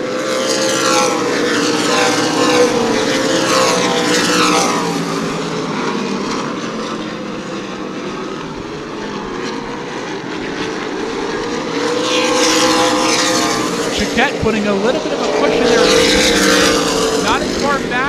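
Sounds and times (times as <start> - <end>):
race car engines passing: 0.0 - 18.0.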